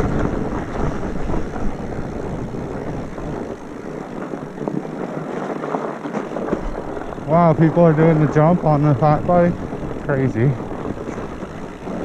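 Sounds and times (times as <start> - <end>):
bike rattling over bumps: 0.0 - 12.0
bike rolling on dirt trail: 0.0 - 12.0.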